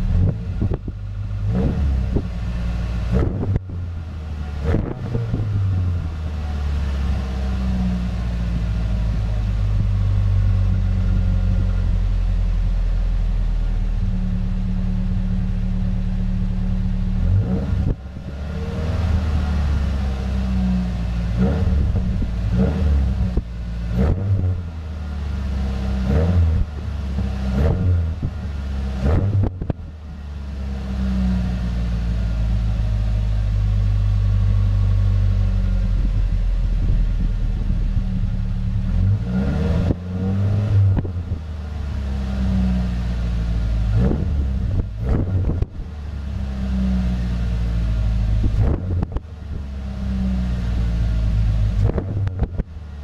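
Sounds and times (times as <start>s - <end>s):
deep engine revving and idling: 0.0s - 53.0s.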